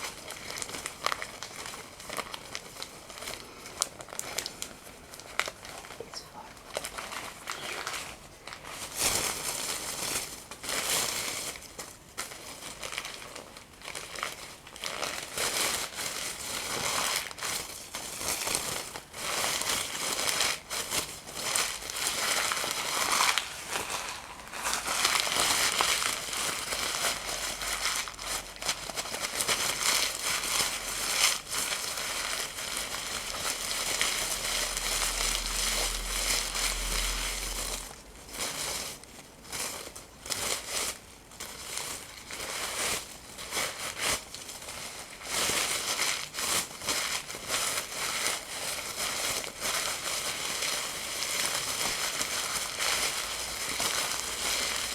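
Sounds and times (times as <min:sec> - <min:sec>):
paper crumpling and tearing: 0:00.0 - 0:54.9.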